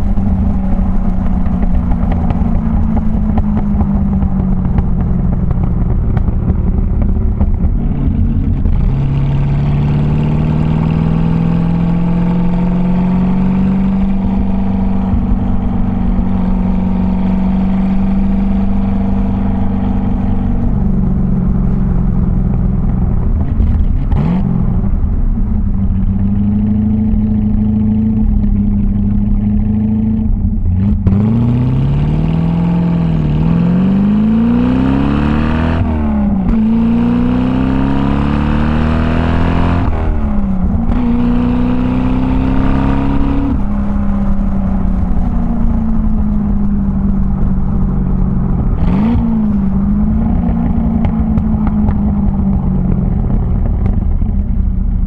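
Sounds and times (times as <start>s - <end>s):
car engine exhaust at speed: 0.0s - 55.0s.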